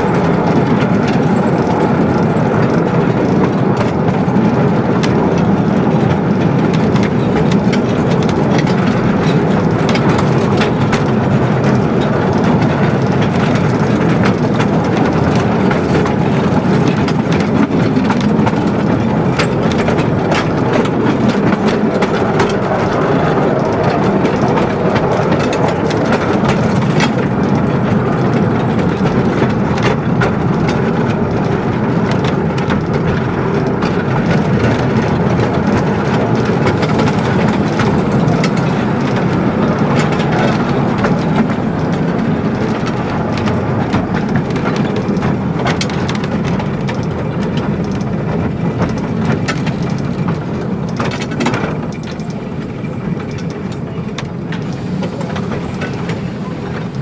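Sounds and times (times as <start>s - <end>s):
train wheels rumbling on track: 0.0s - 57.0s
wheels clacking over rail joints: 0.0s - 57.0s.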